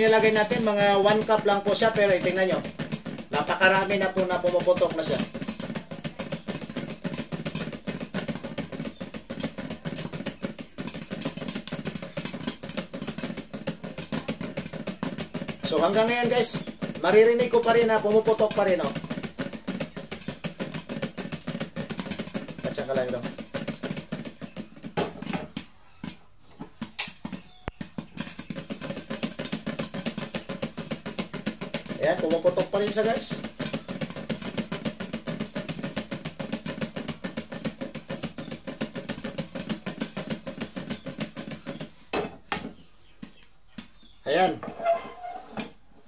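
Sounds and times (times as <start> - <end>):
popcorn popping in a pan: 0.0 - 26.2, 26.8 - 42.7.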